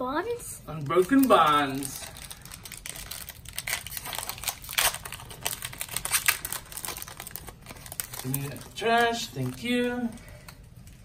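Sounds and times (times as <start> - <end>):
foil wrapper tearing and crinkling: 0.8 - 9.7.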